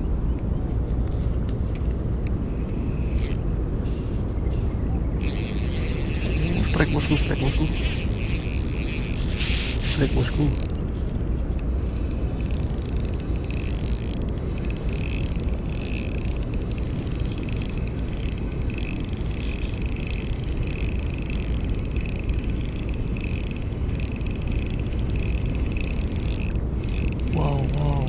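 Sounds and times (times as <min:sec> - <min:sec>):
fishing reel gears whirring: 0:03.1 - 0:03.4, 0:05.2 - 0:28.0.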